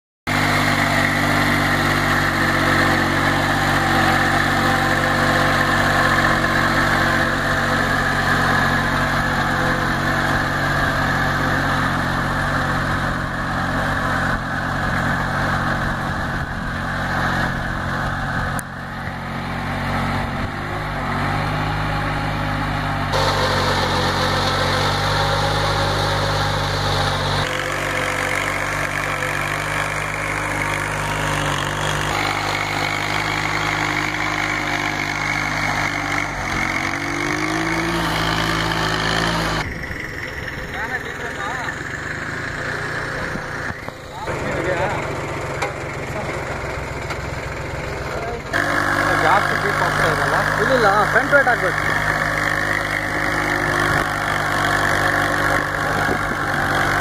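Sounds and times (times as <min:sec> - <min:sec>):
tractor diesel engine under load: 0:00.3 - 0:57.0.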